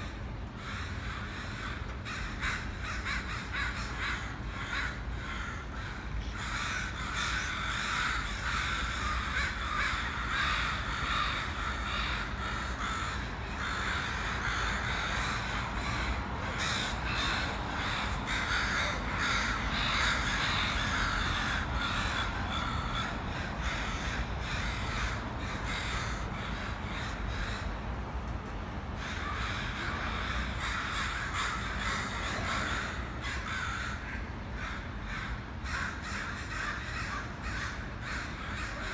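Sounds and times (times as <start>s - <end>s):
crows cawing: 0.0s - 38.9s.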